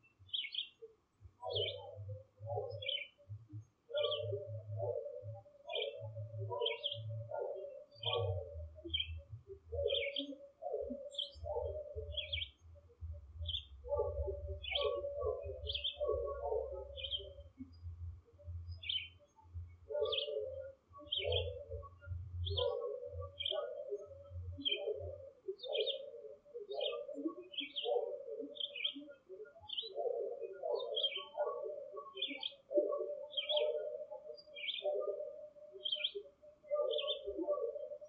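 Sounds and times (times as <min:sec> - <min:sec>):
birds cooing and warbling: 0:00.0 - 0:38.0.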